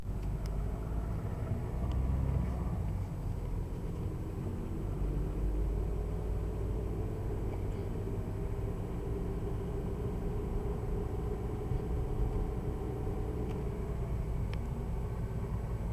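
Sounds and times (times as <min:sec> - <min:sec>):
diesel car engine rumble: 0:00.0 - 0:15.9.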